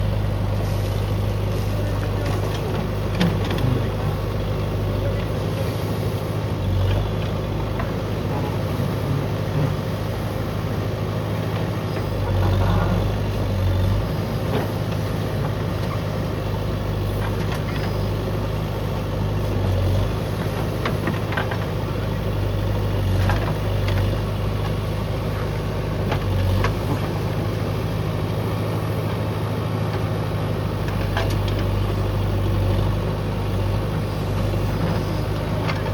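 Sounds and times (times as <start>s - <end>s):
backhoe diesel engine humming: 0.0s - 35.9s.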